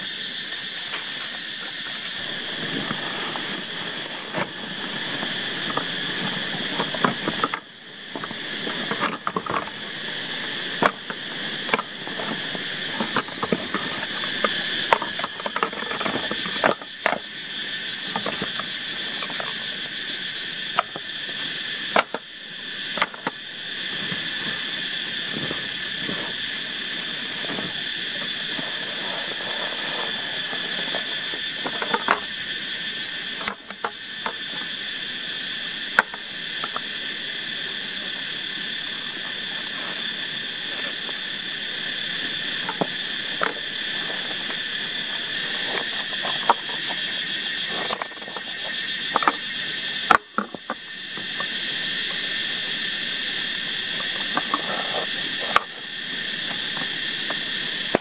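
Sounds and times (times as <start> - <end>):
high insect drone: 0.0 - 58.0
stream hissing: 0.0 - 58.0.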